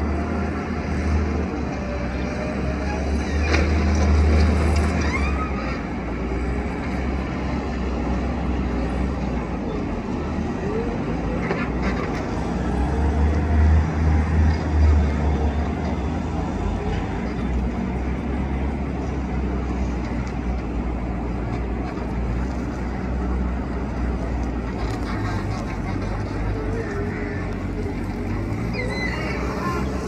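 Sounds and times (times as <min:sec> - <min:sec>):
loader engine droning: 0:00.0 - 0:30.0.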